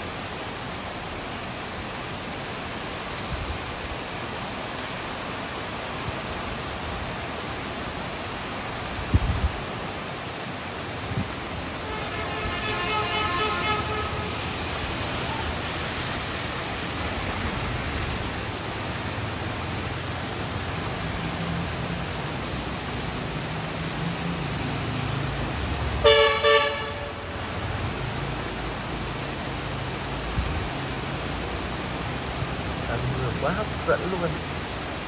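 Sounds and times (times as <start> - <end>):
heavy rain pouring: 0.0 - 35.0
vehicle engine rumble on wet road: 0.0 - 35.0.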